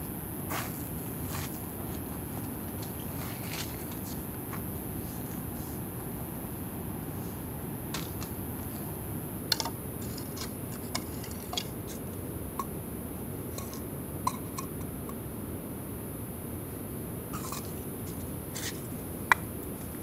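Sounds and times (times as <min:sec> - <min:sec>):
low background rush: 0:00.0 - 0:20.0.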